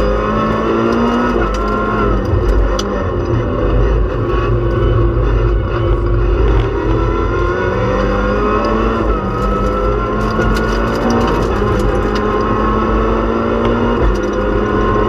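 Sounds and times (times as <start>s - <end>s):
rally car engine revving: 0.0s - 15.0s
road and tyre rumble: 0.0s - 15.0s.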